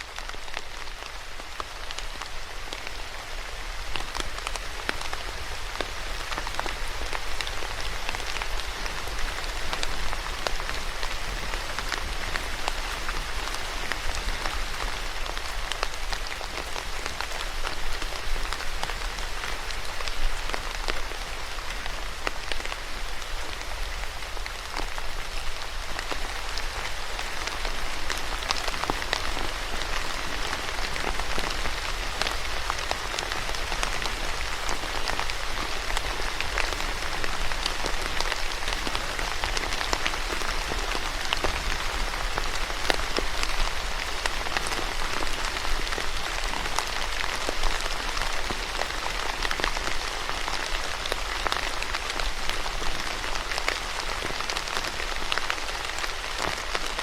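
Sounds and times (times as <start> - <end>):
steady rainfall patter: 0.0 - 57.0.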